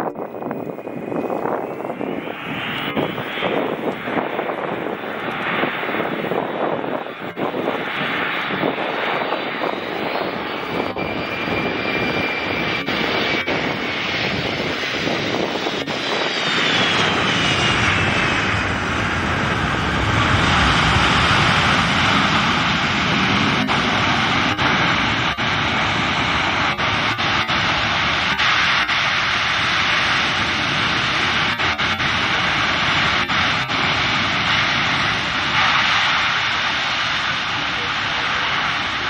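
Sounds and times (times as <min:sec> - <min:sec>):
jet engine high whine: 0:00.0 - 0:39.0
jet engines roaring: 0:00.0 - 0:39.0.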